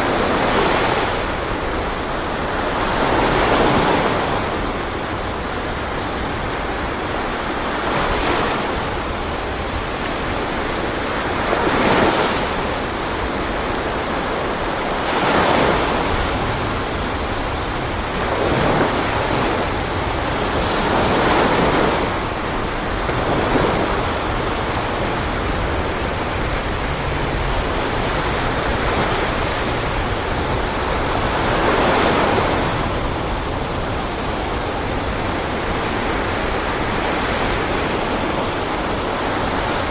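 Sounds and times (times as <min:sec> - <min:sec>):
sea waves surging: 0:00.0 - 0:39.9
wind: 0:00.0 - 0:39.9.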